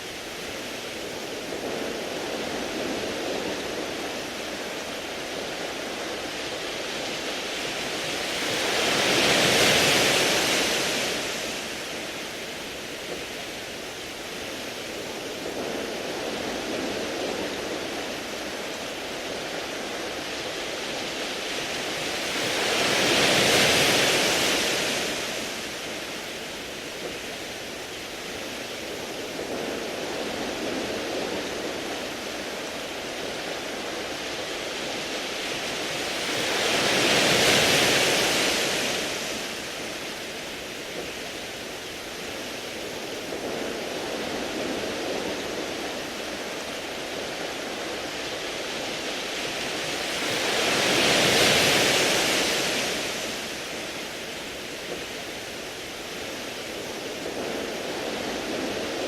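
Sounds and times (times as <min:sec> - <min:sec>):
waves washing on pebbles: 0:00.0 - 0:59.0.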